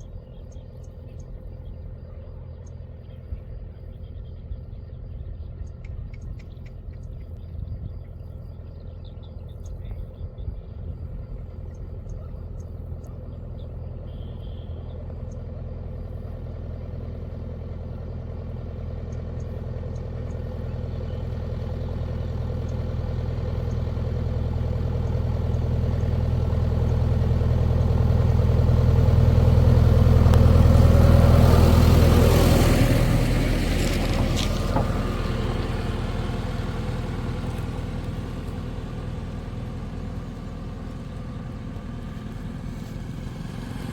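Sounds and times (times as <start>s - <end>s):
heavy machine diesel engine: 0.0s - 43.9s.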